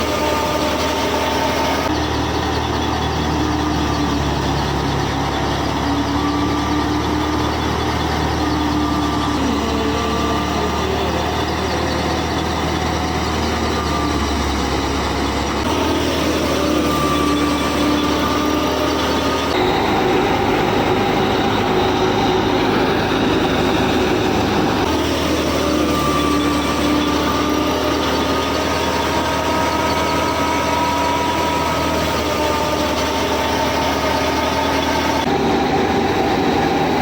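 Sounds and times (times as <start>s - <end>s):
small motor whining: 0.0s - 37.0s.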